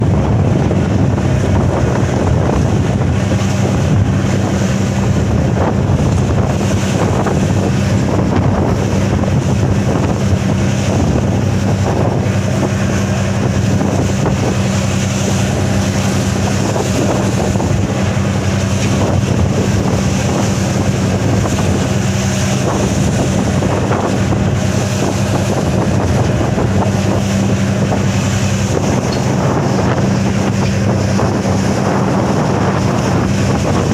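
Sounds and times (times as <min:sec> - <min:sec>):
boat engine running: 0:00.0 - 0:33.9
water noise: 0:00.0 - 0:33.9
wind on microphone: 0:00.0 - 0:33.9.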